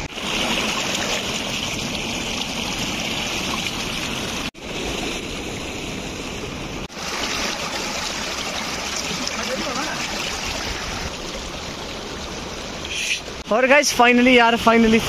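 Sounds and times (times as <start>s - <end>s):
stream rushing over rocks: 0.0s - 14.9s.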